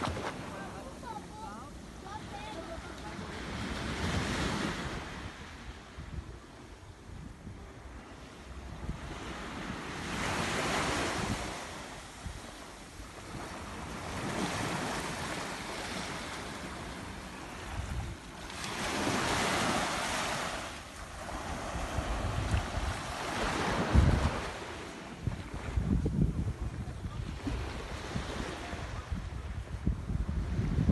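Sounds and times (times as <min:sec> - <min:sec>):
waves breaking on beach: 0:00.0 - 0:06.0, 0:07.7 - 0:30.8
wind buffeting microphone: 0:00.0 - 0:30.9.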